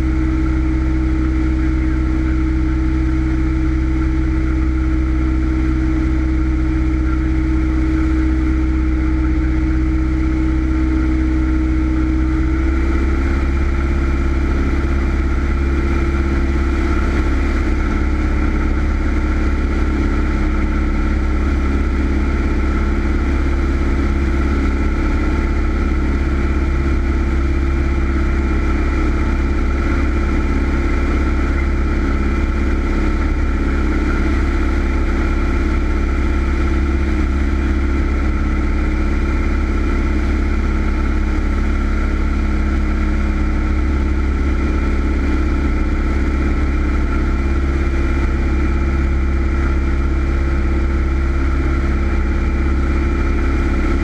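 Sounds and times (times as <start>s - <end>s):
propeller plane engine droning: 0.0s - 54.0s.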